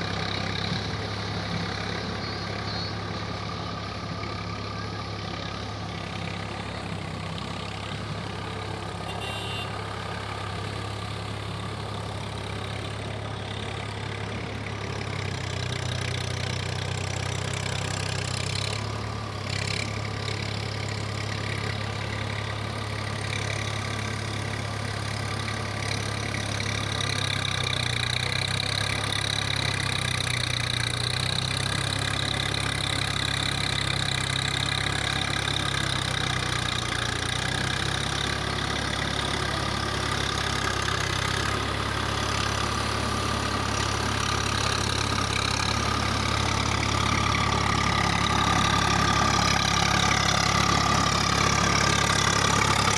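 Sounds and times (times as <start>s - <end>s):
tractor engine idling: 0.0s - 52.9s.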